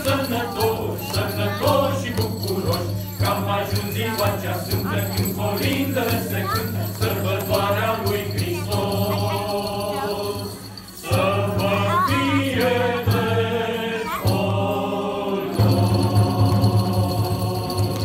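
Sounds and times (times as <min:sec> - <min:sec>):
choir singing a carol: 0:00.0 - 0:18.0.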